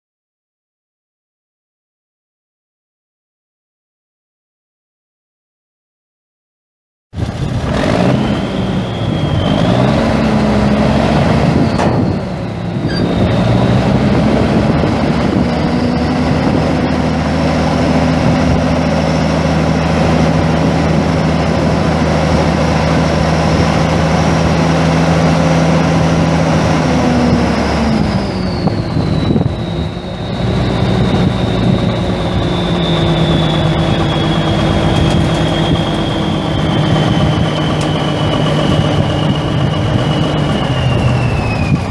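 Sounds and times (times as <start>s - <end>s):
diesel truck engine running: 7.2s - 41.9s
high turbo whine: 7.2s - 41.9s.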